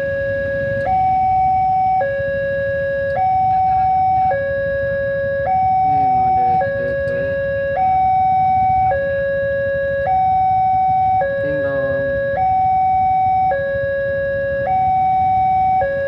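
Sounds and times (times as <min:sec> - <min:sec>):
level crossing two-tone alarm: 0:00.0 - 0:16.0.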